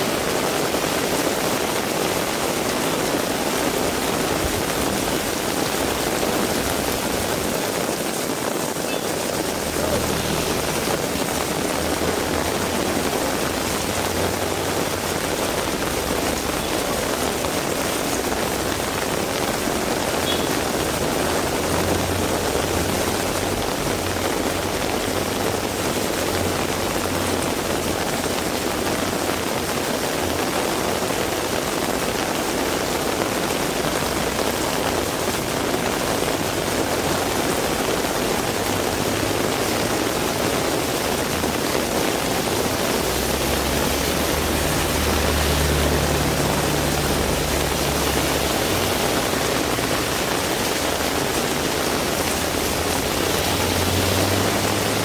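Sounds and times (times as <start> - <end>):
heavy rain: 0.0 - 55.0
passing vehicle rumble: 0.2 - 55.0.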